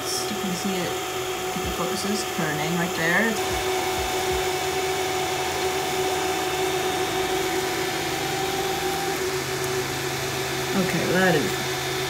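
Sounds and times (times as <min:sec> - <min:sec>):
printer fans and motors whirring: 0:00.0 - 0:12.0.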